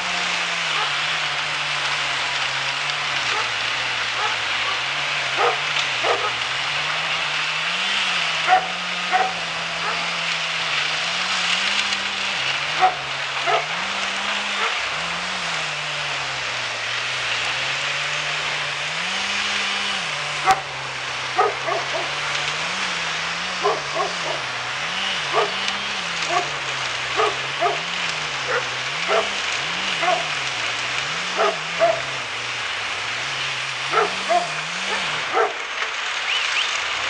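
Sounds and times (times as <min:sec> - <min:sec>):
wood chipper engine running: 0:00.0 - 0:37.0.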